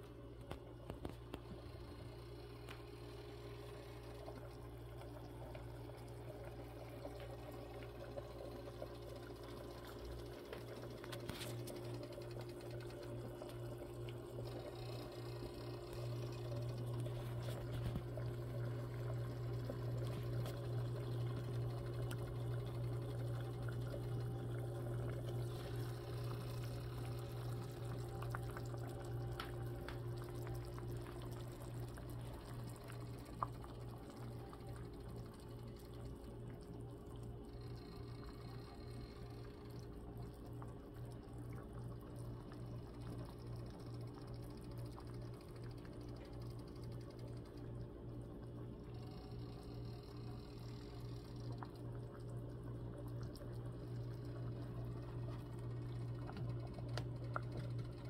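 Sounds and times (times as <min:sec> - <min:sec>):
low hum: 0:00.0 - 0:58.0
soup bubbling in a pot: 0:00.0 - 0:58.0.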